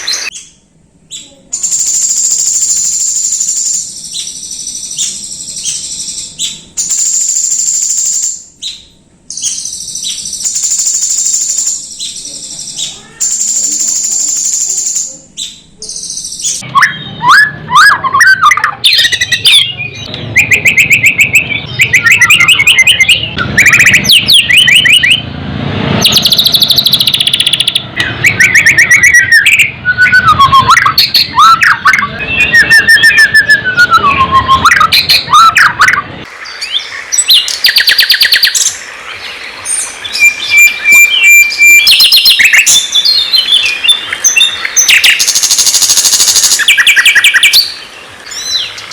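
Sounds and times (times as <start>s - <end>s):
songbird singing: 0.0s - 25.4s, 26.0s - 48.9s
background noise: 0.0s - 48.9s.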